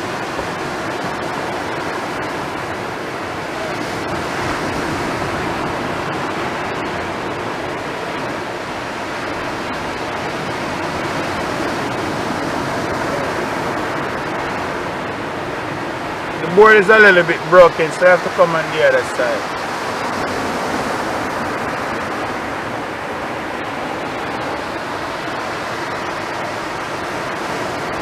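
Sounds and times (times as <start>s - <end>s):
sea surf on a beach: 0.0s - 28.0s.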